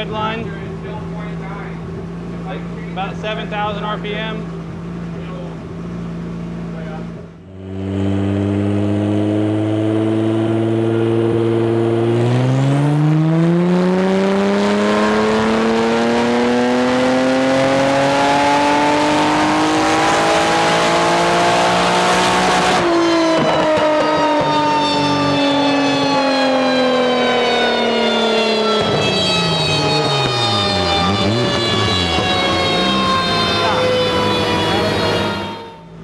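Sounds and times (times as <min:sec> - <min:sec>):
car engine revving on dyno: 0:00.0 - 0:36.0.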